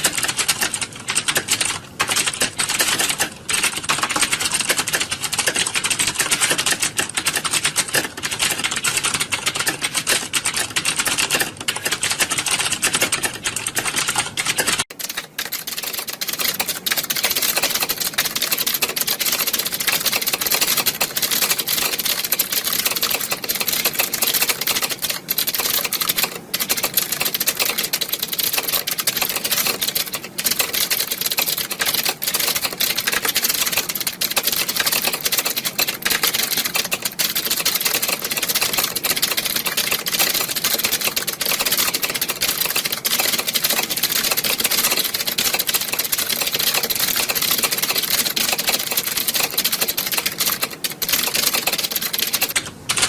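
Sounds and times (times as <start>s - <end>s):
many keyboards typing: 0.0s - 53.0s.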